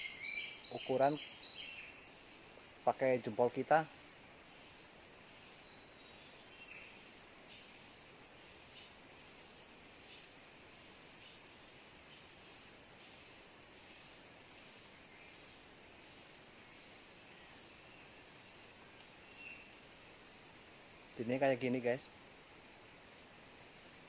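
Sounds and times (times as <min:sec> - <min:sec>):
faint forest background: 0:00.0 - 0:24.0.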